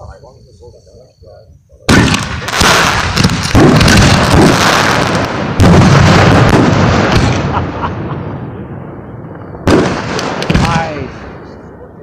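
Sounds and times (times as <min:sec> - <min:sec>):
fireworks bursting with bangs: 0:01.8 - 0:12.0
firework crackling: 0:01.9 - 0:12.0.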